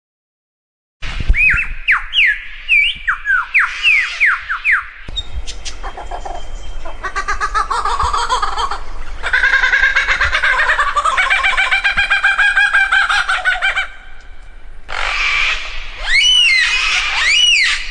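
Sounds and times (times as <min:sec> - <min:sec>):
bird calling: 0:01.3 - 0:17.9.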